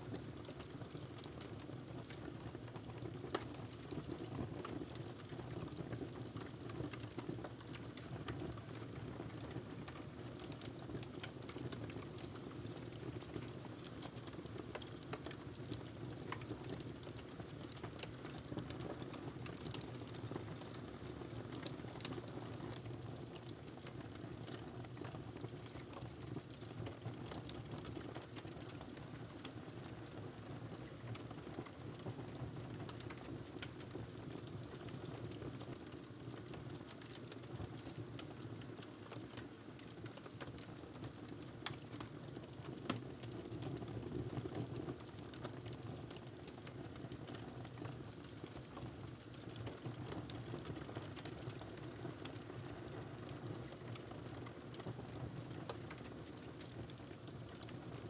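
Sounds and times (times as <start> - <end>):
wood fire crackling: 9.6 - 22.2, 22.8 - 58.0.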